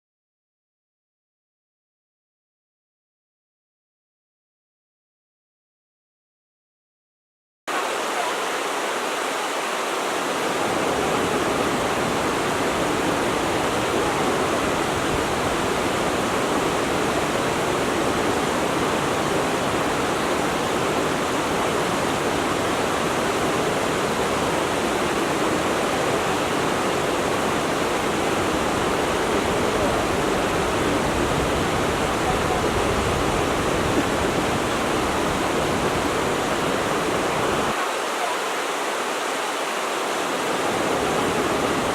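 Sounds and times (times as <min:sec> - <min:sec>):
stream water rushing: 0:07.7 - 0:41.9.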